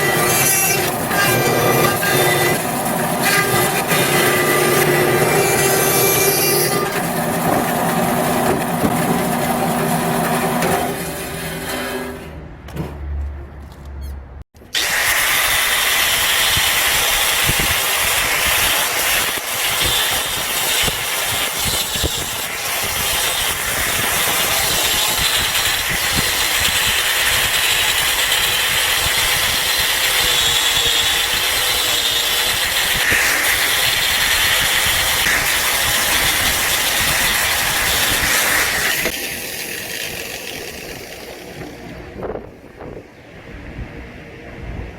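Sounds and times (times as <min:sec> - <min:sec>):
machine running with hissing crackle: 0:00.0 - 0:12.0, 0:14.7 - 0:42.0.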